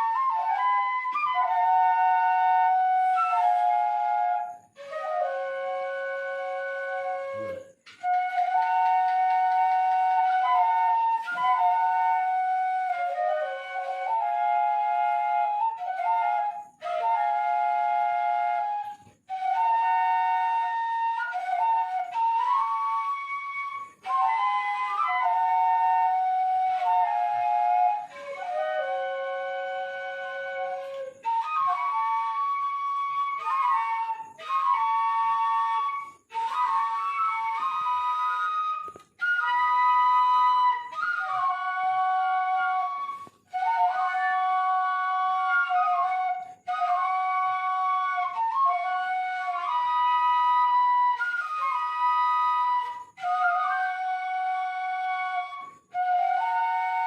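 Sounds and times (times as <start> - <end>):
bamboo flutes playing in harmony: 0.0 - 57.0.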